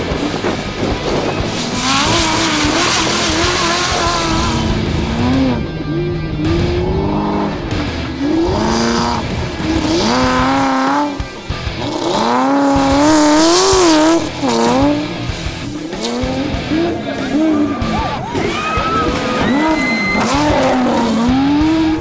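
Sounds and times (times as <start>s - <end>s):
truck engines revving: 0.0s - 22.0s.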